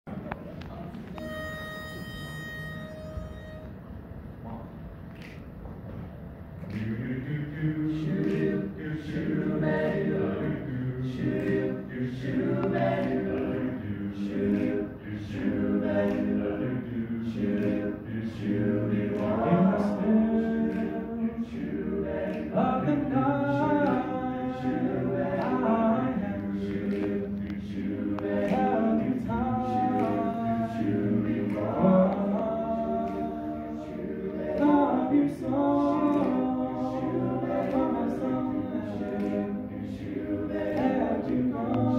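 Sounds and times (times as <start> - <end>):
backing voices singing: 6.6 - 41.9
lead voice singing: 6.7 - 41.9.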